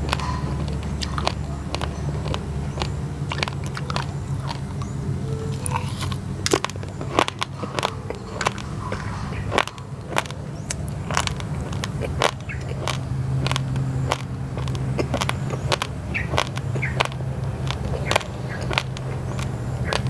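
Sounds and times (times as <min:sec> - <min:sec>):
chewing raw rice crunches: 0:00.0 - 0:20.0
steady low rumble: 0:00.0 - 0:20.0.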